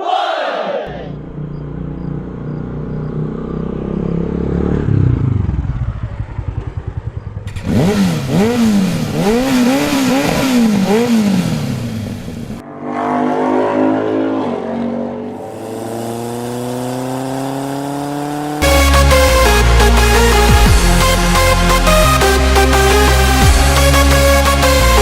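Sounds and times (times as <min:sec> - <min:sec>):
different engine sound: 0:00.9 - 0:14.6, 0:15.2 - 0:25.0
motorcycle engine revving: 0:00.9 - 0:25.0.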